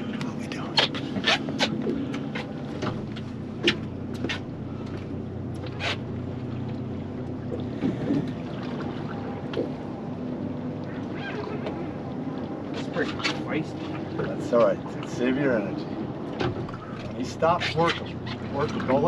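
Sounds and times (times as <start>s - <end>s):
outboard motor humming: 0.0s - 19.0s.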